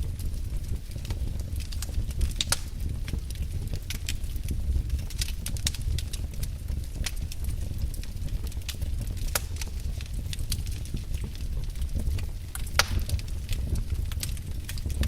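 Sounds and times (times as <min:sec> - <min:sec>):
low rumble of flames: 0:00.0 - 0:15.0
wood fire crackling: 0:00.0 - 0:15.0
sharp fire pops: 0:00.2 - 0:15.0.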